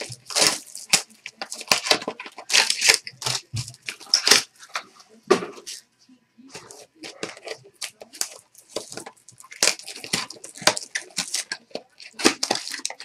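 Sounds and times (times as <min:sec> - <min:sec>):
plastic wrapping crinkling and tearing: 0:00.0 - 0:04.9, 0:06.5 - 0:13.0.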